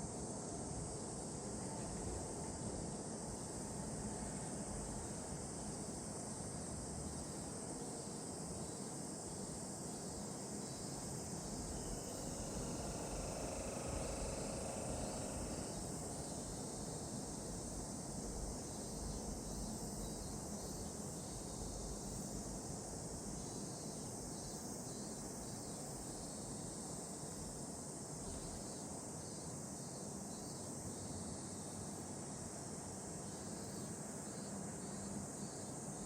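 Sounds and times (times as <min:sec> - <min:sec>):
cicadas droning in chorus: 0:00.0 - 0:36.0.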